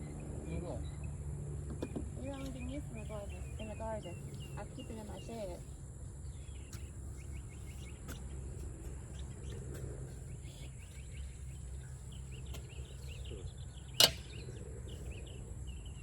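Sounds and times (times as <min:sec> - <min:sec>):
low steady rumble: 0:00.0 - 0:16.0
small birds chirping: 0:00.0 - 0:16.0.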